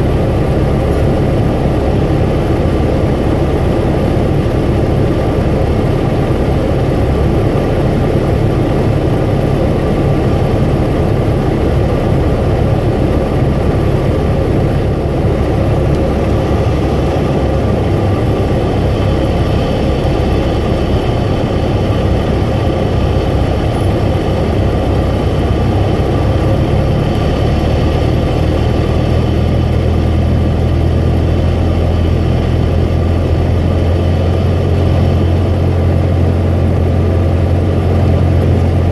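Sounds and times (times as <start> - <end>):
small airplane engine and propeller: 0.0 - 38.9.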